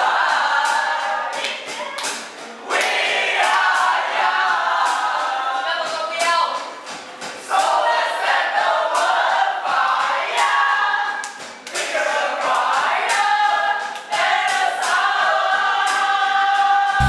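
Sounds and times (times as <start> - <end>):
young voices singing together: 0.0 - 6.2, 6.8 - 17.0.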